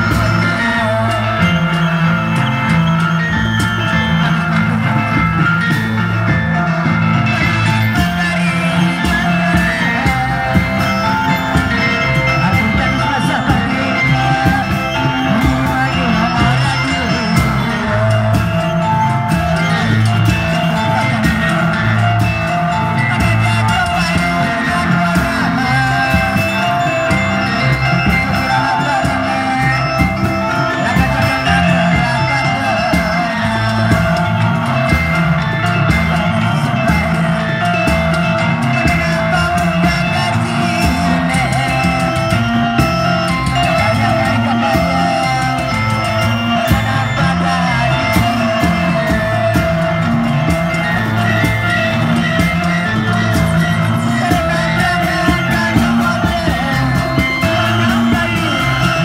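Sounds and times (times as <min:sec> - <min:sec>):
music with singing: 0:00.0 - 0:59.0
repeating drum beat: 0:00.0 - 0:59.0.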